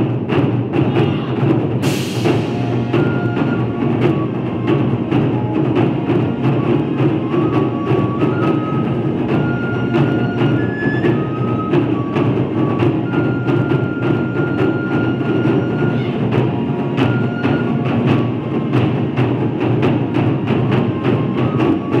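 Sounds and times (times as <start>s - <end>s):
taiko drums playing: 0.0s - 22.0s.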